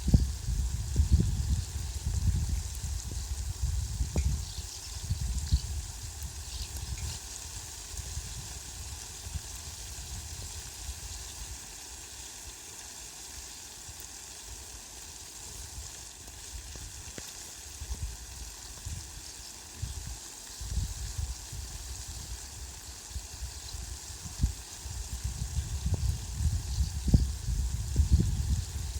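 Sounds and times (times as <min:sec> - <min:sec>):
heavy rain on leafy plants: 0:00.0 - 0:28.9.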